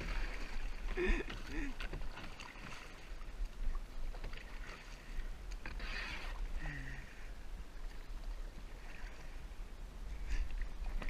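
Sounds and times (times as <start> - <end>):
paddle splashing in water: 0.0 - 9.4.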